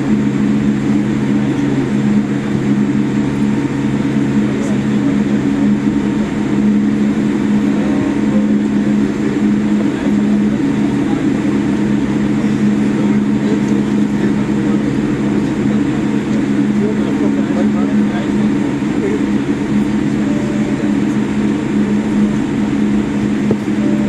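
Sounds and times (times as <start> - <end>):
aircraft cabin drone: 0.0 - 24.0.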